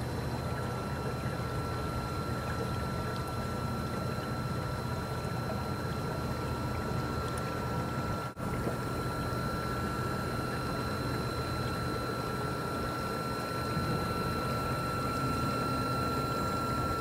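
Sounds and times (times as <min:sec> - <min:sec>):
water churning: 0:00.0 - 0:17.0.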